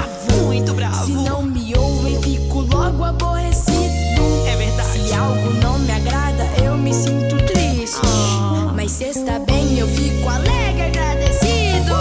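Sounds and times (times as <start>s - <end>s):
upbeat song with deep bass: 0.0s - 12.0s.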